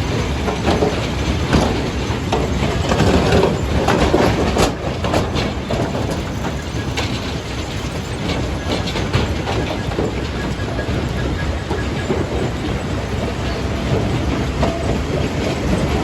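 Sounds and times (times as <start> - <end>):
rock crusher rumbling: 0.0 - 16.0.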